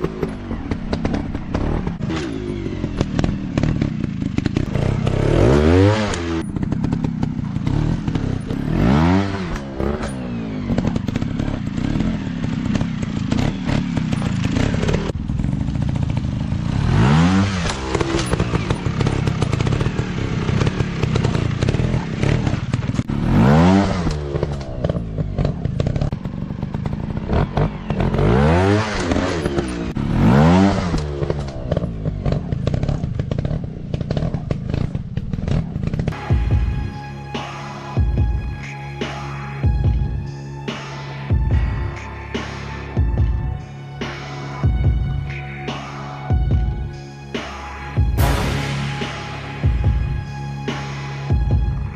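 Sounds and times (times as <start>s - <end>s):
dirt bike engine revving: 0.0s - 36.7s, 46.9s - 51.9s.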